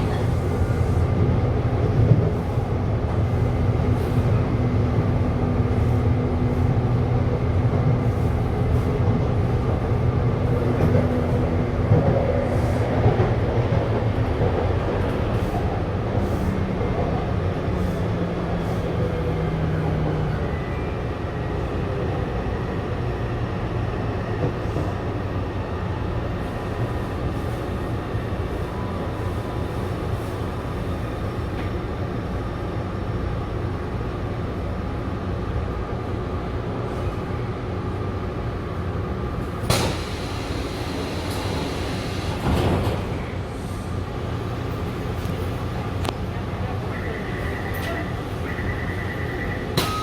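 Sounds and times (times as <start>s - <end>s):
train rumbling on track: 0.0s - 50.0s.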